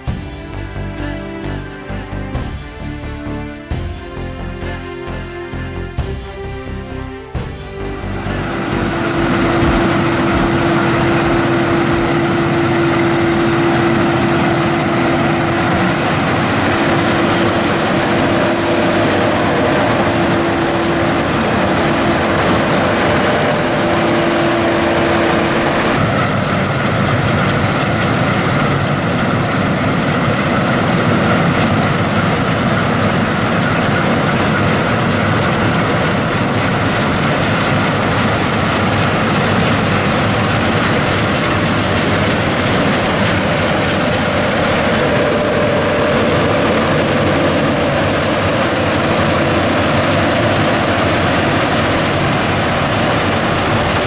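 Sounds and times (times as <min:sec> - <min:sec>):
combine harvester drone: 0:00.0 - 0:54.0
steady hum: 0:06.0 - 0:54.0.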